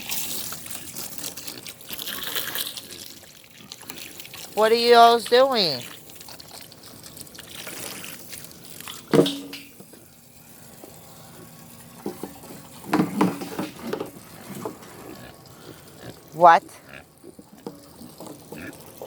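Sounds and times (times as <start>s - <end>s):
water running and trickling: 0.0s - 19.0s.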